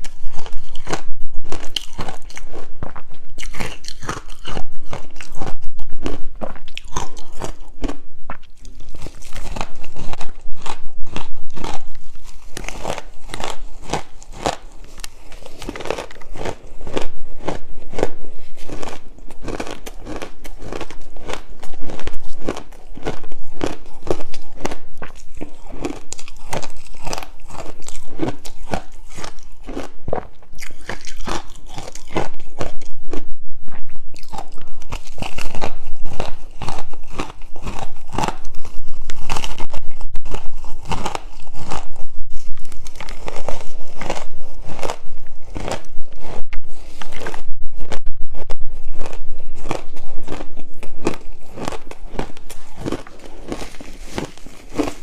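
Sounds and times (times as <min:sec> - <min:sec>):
ice being crunched by chewing: 0:00.0 - 0:55.0.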